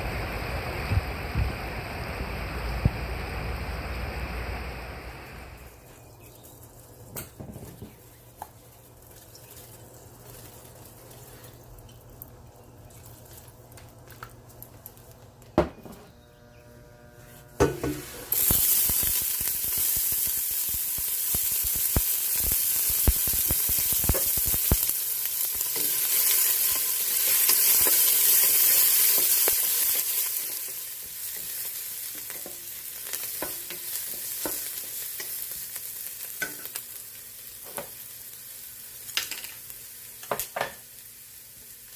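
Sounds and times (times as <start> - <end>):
food sizzling in hot oil: 0.0 - 13.8, 17.6 - 41.9.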